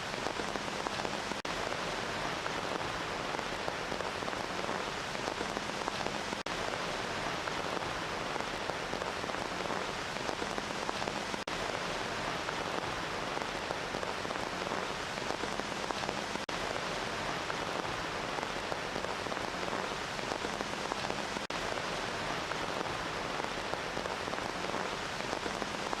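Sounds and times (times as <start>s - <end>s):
rain falling on a surface: 0.0s - 26.0s.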